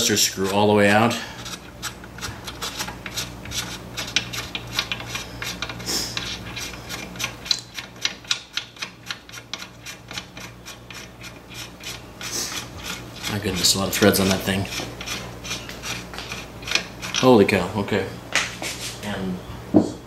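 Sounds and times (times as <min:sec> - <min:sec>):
screw clicking with metal rubbing: 0:00.0 - 0:17.4.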